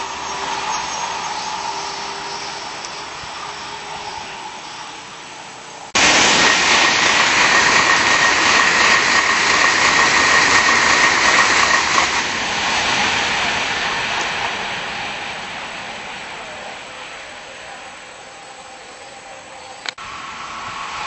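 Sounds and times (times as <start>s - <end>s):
high whine: 0.0s - 21.0s
high-speed train passing: 0.0s - 21.0s.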